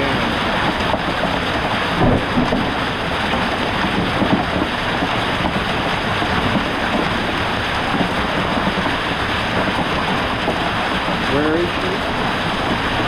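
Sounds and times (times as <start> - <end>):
hail and rain pelting a coop: 0.0 - 13.0
wind: 0.0 - 13.0.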